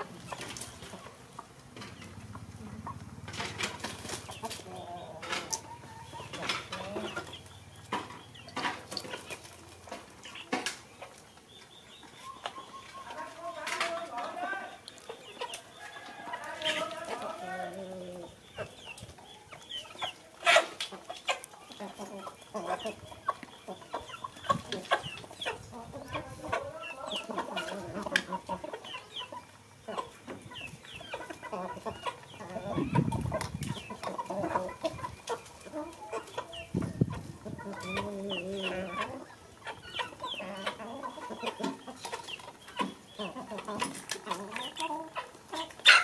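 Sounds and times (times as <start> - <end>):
animal clucking calls: 0.0 - 46.0.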